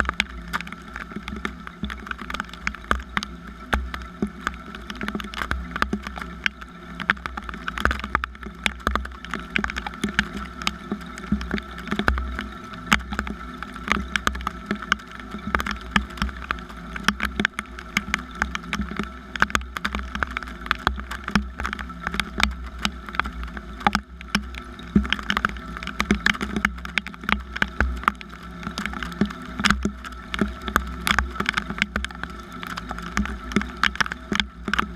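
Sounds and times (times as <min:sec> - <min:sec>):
rain drops ticking on a surface: 0:00.0 - 0:34.9.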